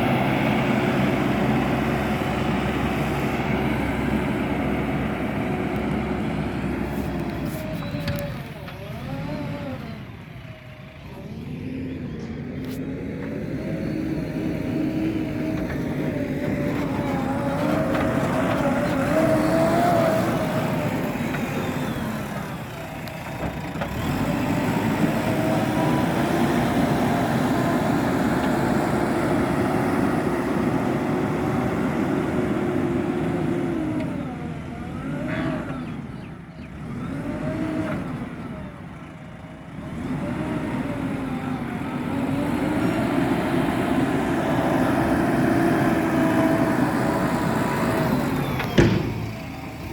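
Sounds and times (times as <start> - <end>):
diesel engine revving under load: 0.0 - 49.9.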